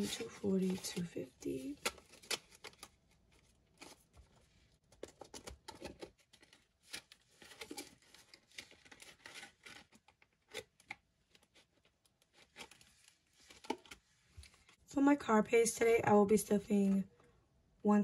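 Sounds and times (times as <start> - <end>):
paper banknotes rustling: 0.0 - 14.8.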